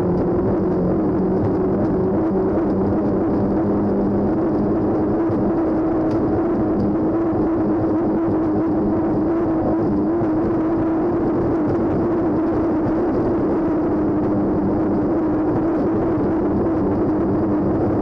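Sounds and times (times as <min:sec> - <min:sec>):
boat engine loud drone: 0:00.0 - 0:18.0.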